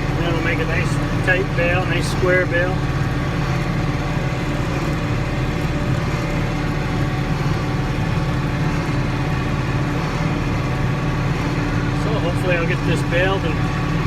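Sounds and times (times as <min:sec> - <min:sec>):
square baler running: 0:00.0 - 0:14.0
tractor diesel engine running: 0:00.0 - 0:14.0.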